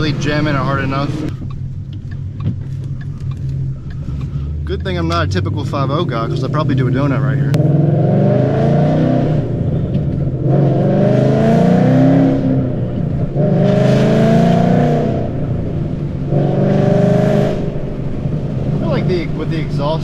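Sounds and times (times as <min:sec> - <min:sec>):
car engine accelerating through gears: 0:00.0 - 0:20.0.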